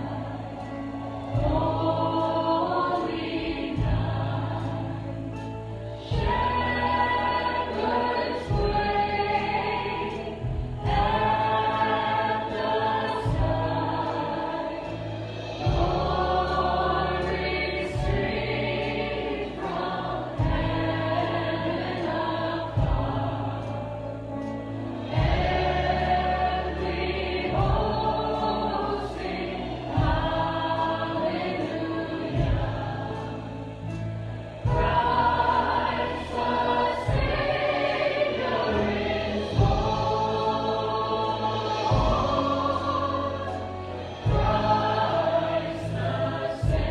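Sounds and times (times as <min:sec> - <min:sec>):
group singing worship song: 0:00.0 - 0:46.9
instrumental accompaniment with bass: 0:00.0 - 0:46.9.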